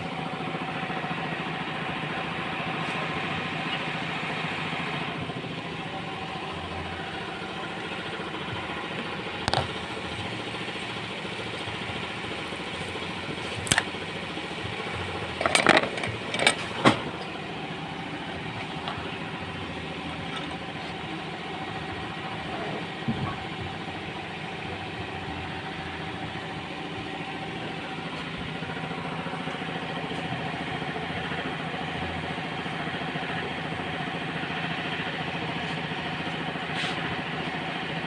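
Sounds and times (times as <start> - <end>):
mechanical engine hum: 0.0 - 38.0.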